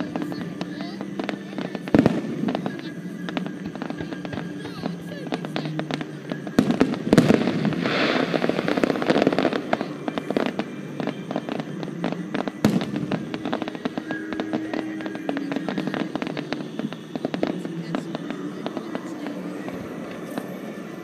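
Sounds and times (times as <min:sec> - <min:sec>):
fireworks bangs: 0:00.0 - 0:21.0
fireworks crackling pops: 0:00.0 - 0:21.0
fireworks hissing spray: 0:00.0 - 0:21.0.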